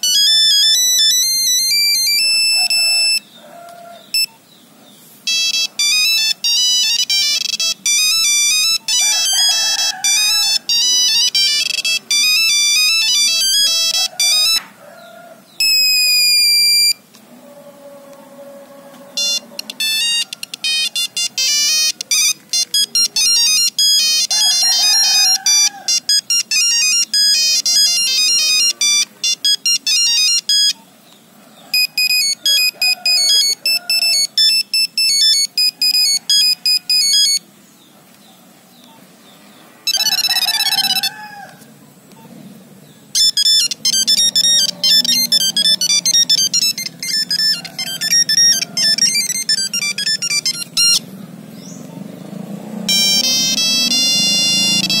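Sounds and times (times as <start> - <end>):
mobile phone ringtones beeping: 0.0 - 3.4, 4.0 - 4.4, 5.2 - 14.6, 15.6 - 17.0, 19.2 - 30.9, 31.7 - 37.5, 39.8 - 42.3, 43.1 - 51.1, 52.6 - 55.0.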